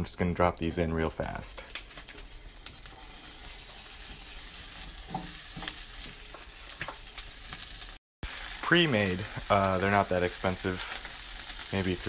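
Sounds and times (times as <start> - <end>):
dumplings sizzling in a hot pan: 1.6 - 12.0.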